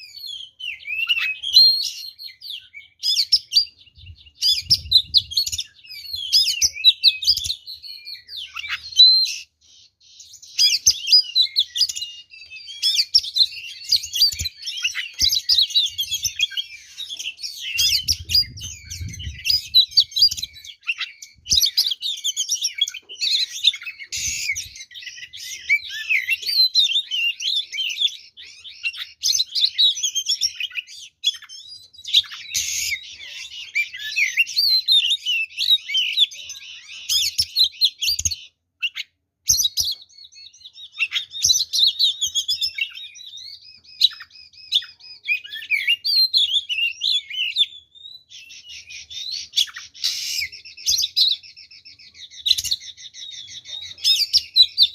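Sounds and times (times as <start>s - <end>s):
songbird singing whistles and chirps: 0.0s - 54.9s.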